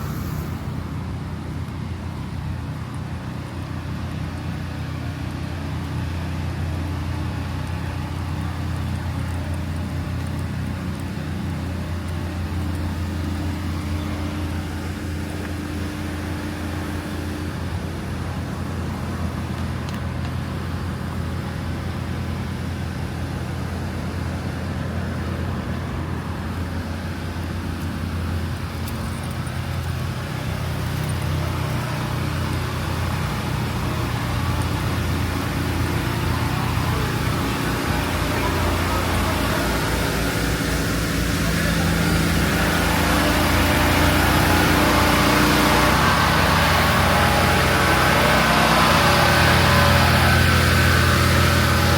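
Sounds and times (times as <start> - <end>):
street traffic: 0.0 - 51.9
vehicle engine humming: 0.0 - 51.9.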